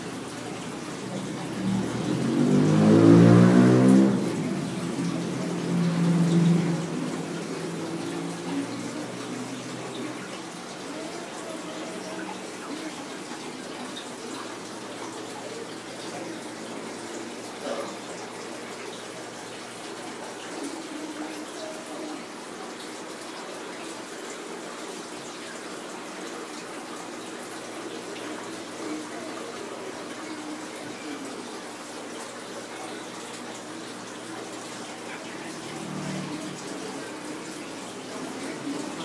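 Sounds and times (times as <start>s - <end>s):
aquarium water running: 0.0s - 39.0s.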